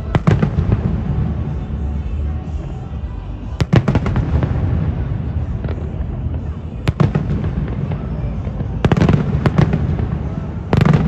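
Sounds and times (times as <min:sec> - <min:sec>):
distant fireworks rumble: 0:00.0 - 0:11.0
sharp firework bangs and crackles: 0:00.0 - 0:11.0.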